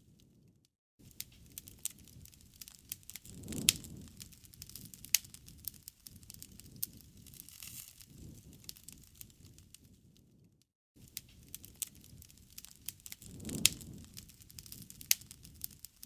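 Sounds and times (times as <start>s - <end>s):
wood fire crackling: 1.0s - 16.0s.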